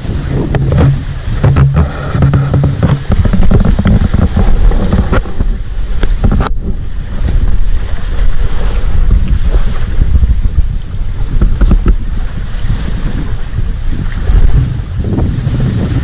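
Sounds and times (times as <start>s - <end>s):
small waves lapping on shore: 0.0s - 16.0s
wind buffeting microphone: 0.0s - 16.0s.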